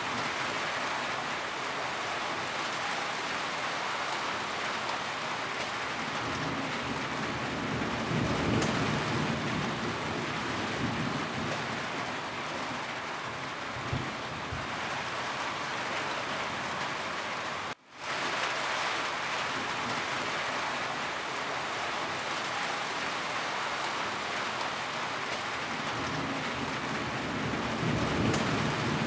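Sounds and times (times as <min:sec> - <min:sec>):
rain falling on a roof: 0:00.0 - 0:29.0.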